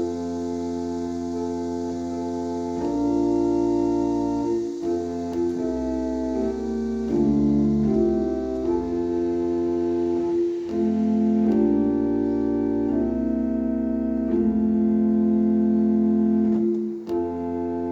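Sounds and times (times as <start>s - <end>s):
organ keyboard chords: 0.0s - 17.9s.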